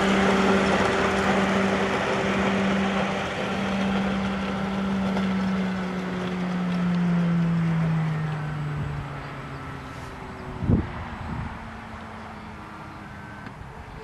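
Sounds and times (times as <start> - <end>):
model electric locomotive humming: 0.0 - 14.0.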